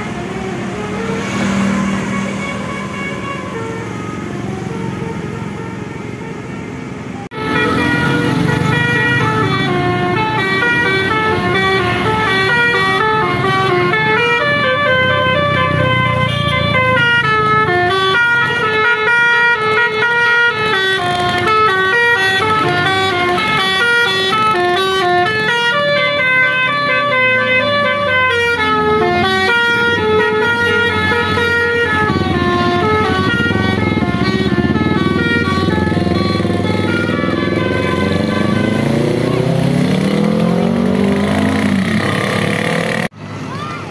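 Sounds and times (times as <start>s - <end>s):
multi-tone air horn melody: 0.0s - 43.0s
bus engine running: 0.0s - 43.9s.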